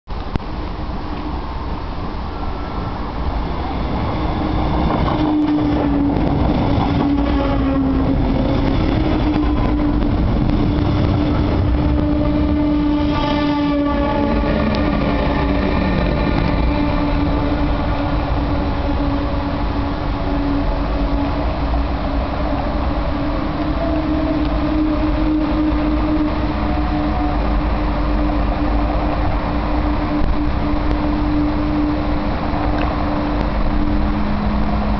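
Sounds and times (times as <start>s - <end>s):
electric locomotive humming: 0.1s - 34.9s
train rolling rumble: 0.1s - 34.9s.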